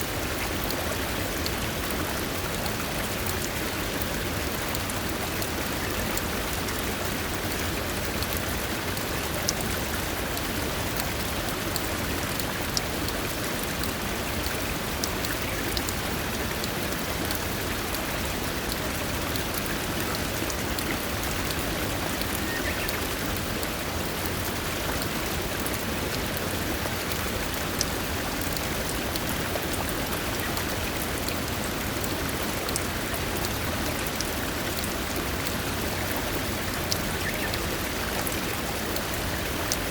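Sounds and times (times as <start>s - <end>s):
rushing water: 0.0s - 39.9s
water drips: 0.1s - 39.9s.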